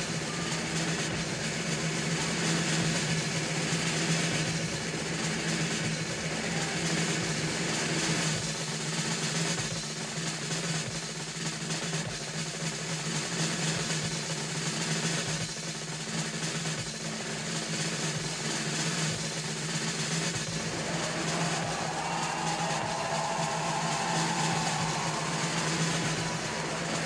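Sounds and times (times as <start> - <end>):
snare drum roll: 0.0 - 27.0.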